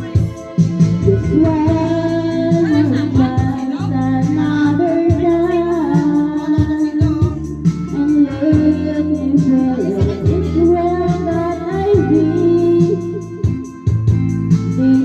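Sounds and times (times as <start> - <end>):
song with sung melody: 0.0 - 15.0.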